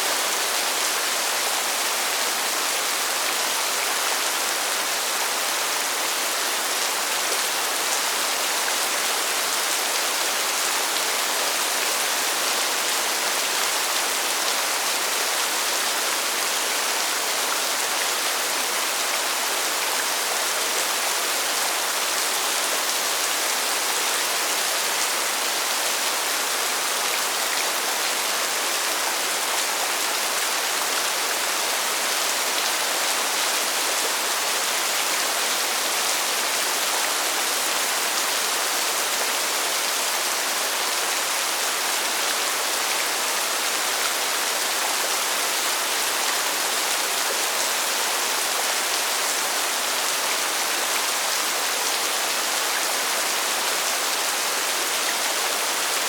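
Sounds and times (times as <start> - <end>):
steady rainfall hiss: 0.0 - 56.0.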